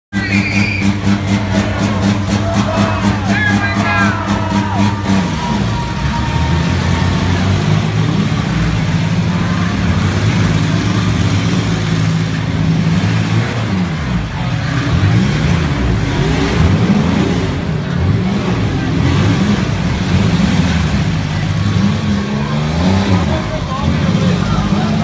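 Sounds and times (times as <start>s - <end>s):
car engines revving: 0.1s - 25.0s
cars hitting each other: 0.2s - 25.0s.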